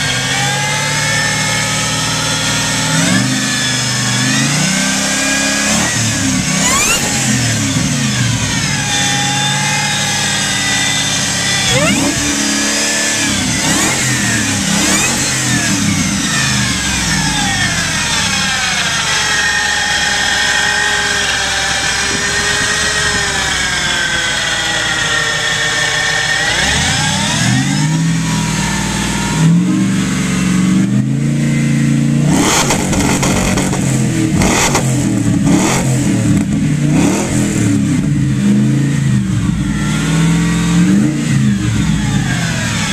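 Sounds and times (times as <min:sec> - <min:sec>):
engine revving: 0:00.0 - 0:42.9
supercharger whine: 0:00.0 - 0:42.9.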